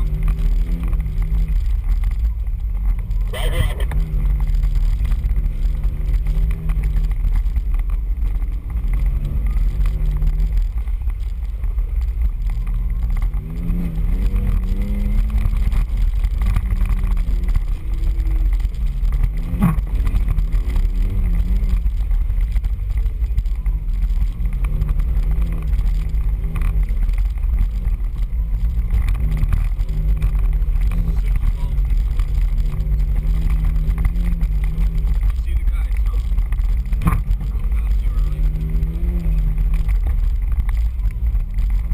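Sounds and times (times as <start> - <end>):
heavy low rumble: 0.0 - 41.9
off-road vehicle engine revving: 0.0 - 41.9.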